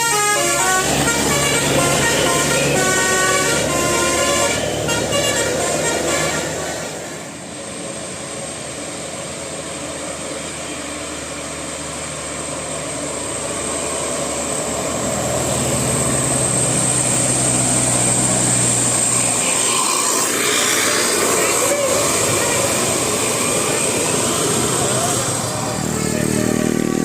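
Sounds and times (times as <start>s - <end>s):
bus diesel engine running: 0.0s - 27.0s.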